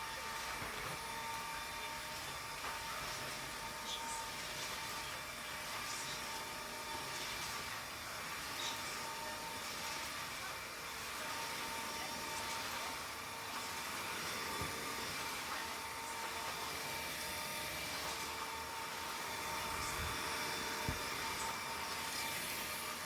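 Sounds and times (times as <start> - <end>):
small appliance motor whirring: 0.0 - 23.0.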